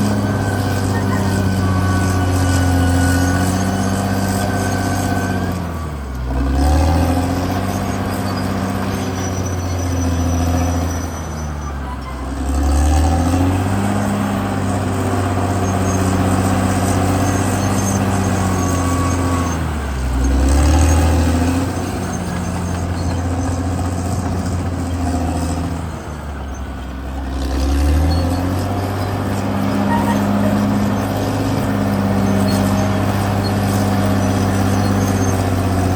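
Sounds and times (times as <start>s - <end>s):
bulldozer diesel engine running hard: 0.0s - 35.9s.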